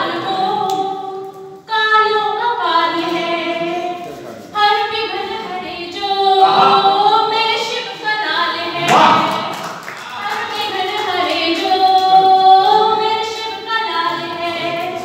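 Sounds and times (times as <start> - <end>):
woman singing unaccompanied: 0.0 - 3.8, 4.6 - 9.3, 10.1 - 15.0.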